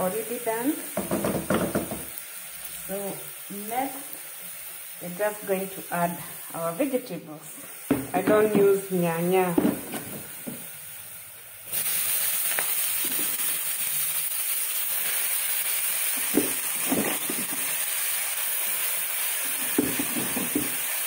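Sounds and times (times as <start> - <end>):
oil and onions sizzling: 0.0 - 21.0.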